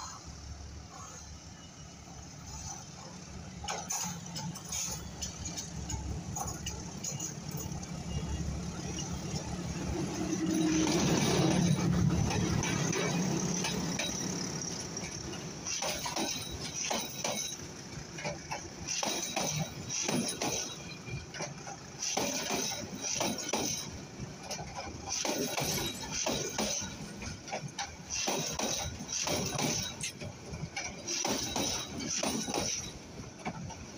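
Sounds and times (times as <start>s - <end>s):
diesel locomotive drone: 0.0s - 33.9s
train wheels clanking: 0.0s - 33.9s.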